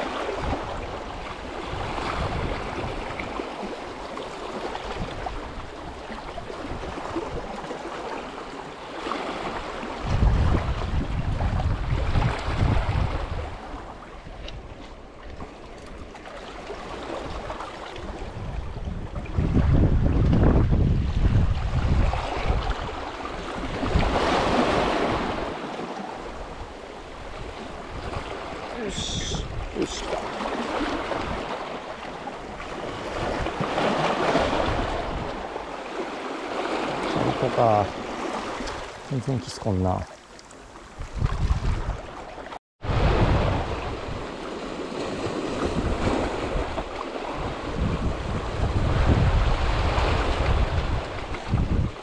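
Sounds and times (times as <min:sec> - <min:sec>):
wind rumbling on microphone: 0:00.0 - 0:07.9, 0:09.4 - 0:39.4, 0:40.5 - 0:52.0
sea waves washing in: 0:00.0 - 0:52.0.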